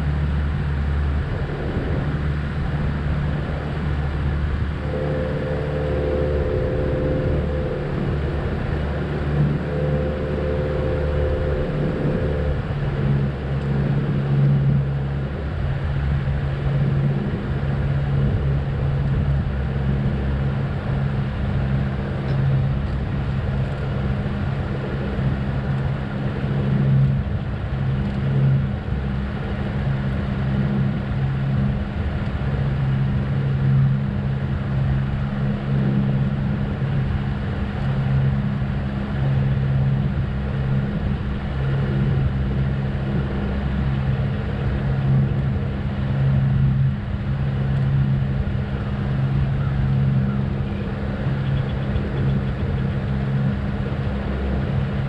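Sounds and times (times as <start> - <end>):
boat motor droning: 0.0 - 55.0.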